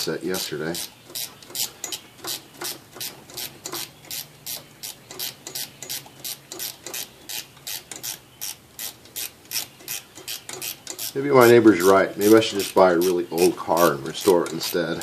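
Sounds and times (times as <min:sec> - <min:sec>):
ratcheting wrench clicking: 0:00.8 - 0:11.5, 0:12.2 - 0:13.1, 0:13.7 - 0:15.0.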